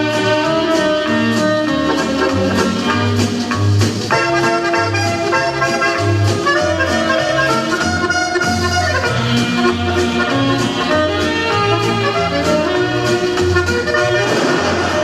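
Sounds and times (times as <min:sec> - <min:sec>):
instrumental music with pulsing bass: 0:00.0 - 0:15.0.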